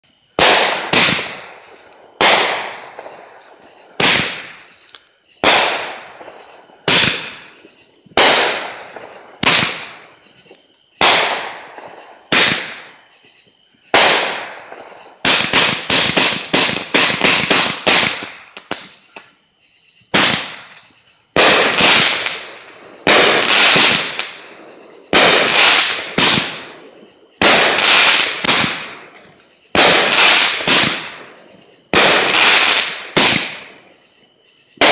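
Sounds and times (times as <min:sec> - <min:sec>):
fireworks cake bangs: 0:00.2 - 0:04.8, 0:05.4 - 0:13.2, 0:13.8 - 0:19.3, 0:20.1 - 0:33.8.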